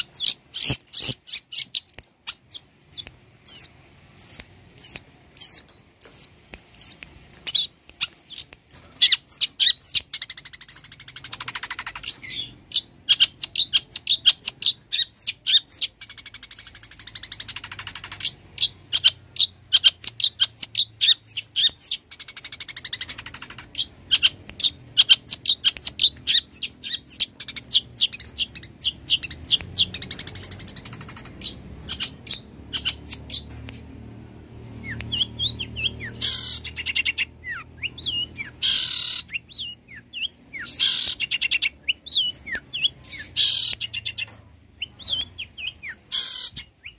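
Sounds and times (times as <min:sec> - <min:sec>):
bird singing chips and whistles: 0:00.0 - 0:33.9, 0:34.8 - 0:46.9.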